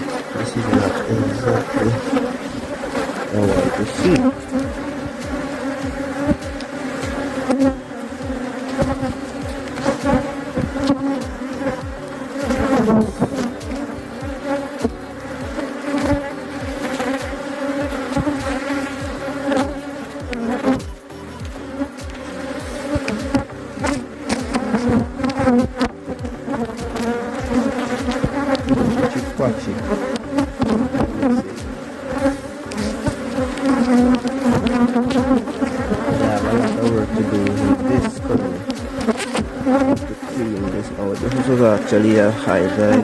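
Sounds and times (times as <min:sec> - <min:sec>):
bees buzzing: 0:00.0 - 0:43.0
short low thumps: 0:03.4 - 0:41.4.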